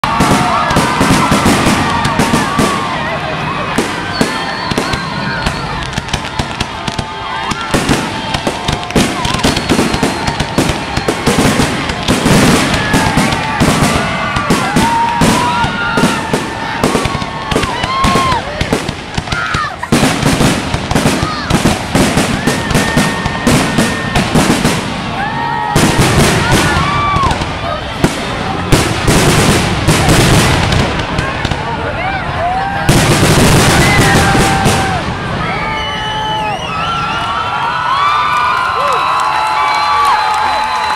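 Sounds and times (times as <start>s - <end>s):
fireworks bursting and crackling: 0.0s - 36.6s.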